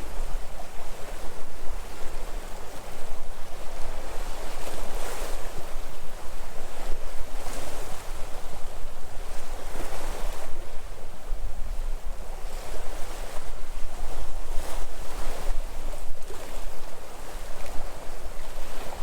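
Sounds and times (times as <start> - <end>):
sea waves breaking on shore: 0.0 - 19.0
wind rumble on microphone: 0.0 - 19.0.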